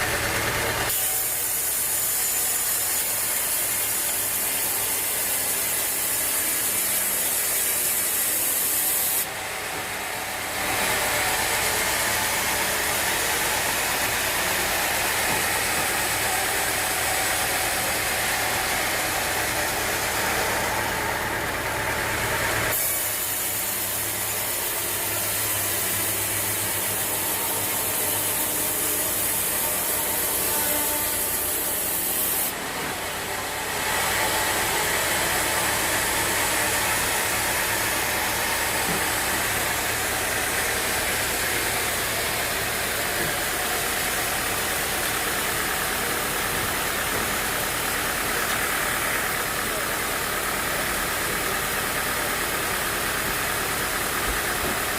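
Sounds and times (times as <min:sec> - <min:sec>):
saw hissing: 0:00.2 - 0:54.9.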